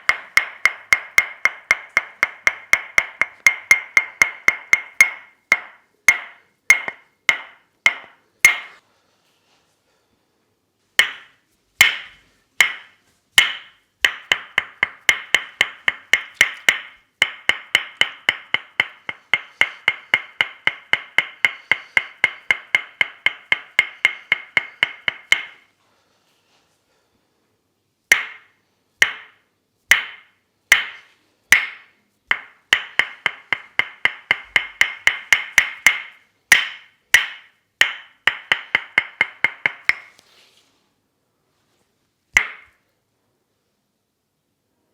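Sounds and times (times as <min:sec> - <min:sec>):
wooden mallet tapping wood: 0:00.0 - 0:08.8, 0:11.0 - 0:25.7, 0:28.1 - 0:40.2, 0:42.3 - 0:42.8.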